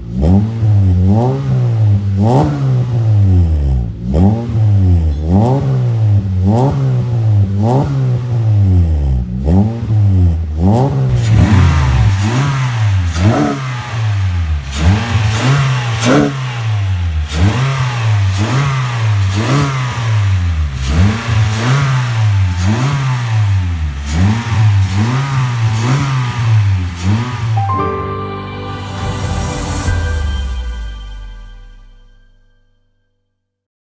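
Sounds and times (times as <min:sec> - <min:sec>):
car engine revving: 0:00.0 - 0:27.6.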